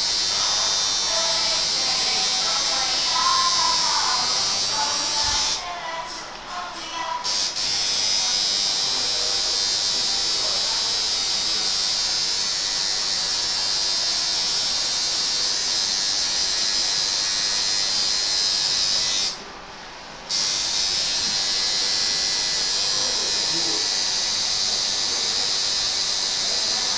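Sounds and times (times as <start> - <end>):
tattoo machine buzzing: 0.0 - 5.6, 7.2 - 19.4, 20.3 - 26.9.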